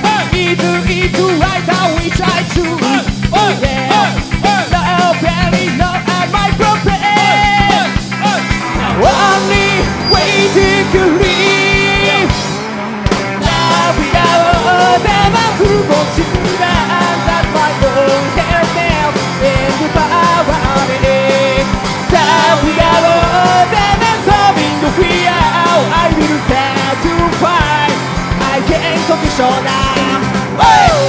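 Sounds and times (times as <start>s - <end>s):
person singing: 0.0s - 12.5s, 13.4s - 31.0s
drum kit: 0.0s - 31.0s
electric guitars: 0.0s - 31.0s.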